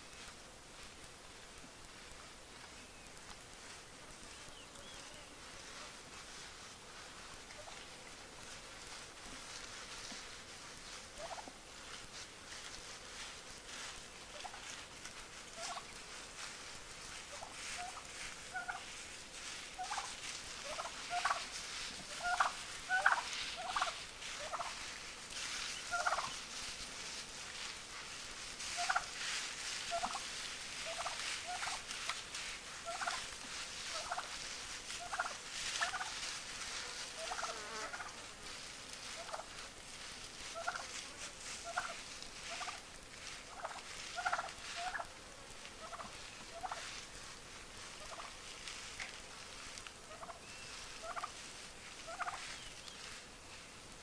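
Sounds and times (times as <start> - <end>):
wild turkeys gobbling: 6.2 - 8.2, 8.8 - 11.9, 12.5 - 47.2, 47.8 - 53.2.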